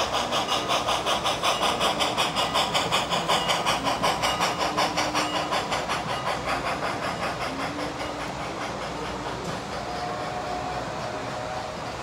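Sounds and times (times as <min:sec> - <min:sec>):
steam train chuffing: 0:00.0 - 0:12.0.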